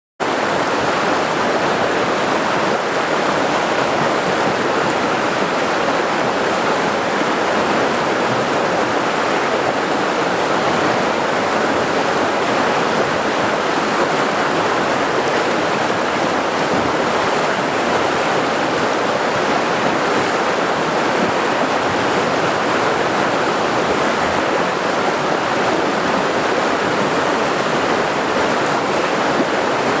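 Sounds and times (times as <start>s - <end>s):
river water flowing: 0.2s - 30.0s.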